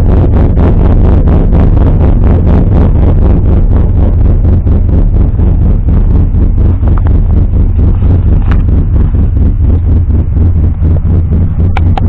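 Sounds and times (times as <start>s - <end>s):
truck engine loping idle: 0.0s - 12.0s
wind on microphone: 0.0s - 12.0s.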